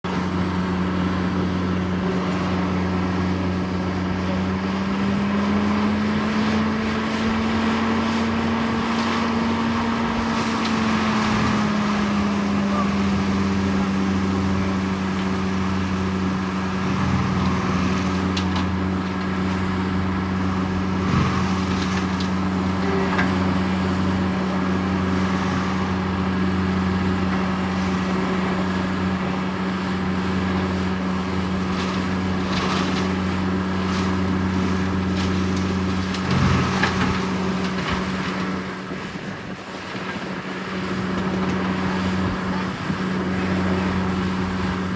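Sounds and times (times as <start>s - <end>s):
forestry mulcher machine running: 0.0s - 44.9s.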